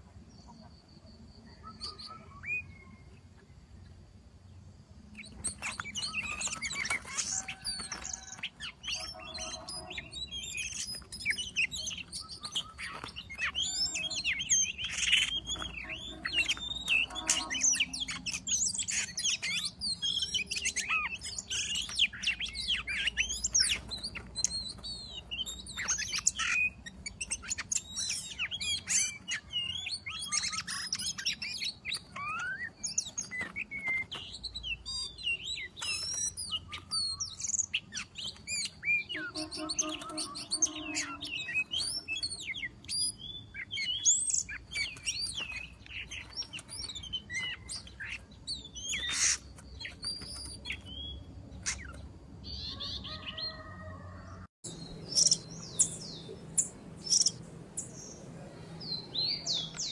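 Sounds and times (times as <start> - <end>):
bird singing whistles and chirps: 1.4 - 3.1, 5.1 - 53.9.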